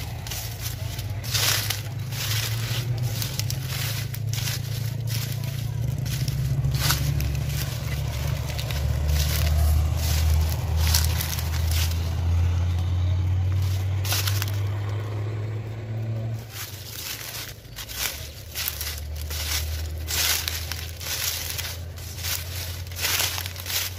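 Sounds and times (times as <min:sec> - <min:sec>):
dry corn leaves crackling: 0:00.0 - 0:23.9
low rumble: 0:00.0 - 0:23.9.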